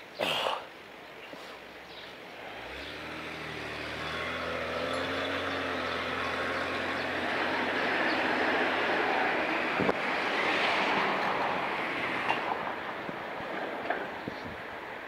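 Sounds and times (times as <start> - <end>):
vehicle engine hum approaching: 1.8 - 15.0.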